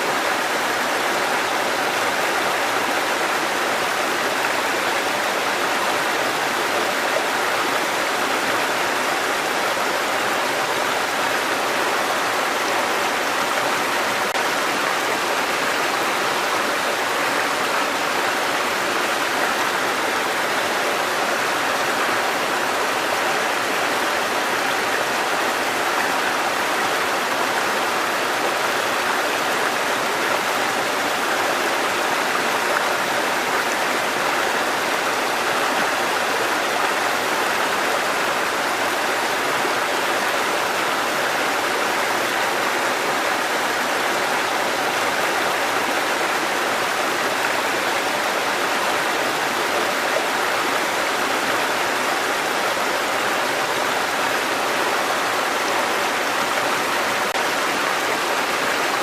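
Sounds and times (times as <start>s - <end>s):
water cascading over rocks: 0.0s - 59.0s.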